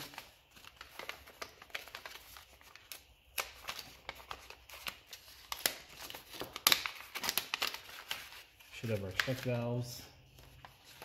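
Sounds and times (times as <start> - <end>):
paper envelope rustling and crinkling: 0.0 - 11.0.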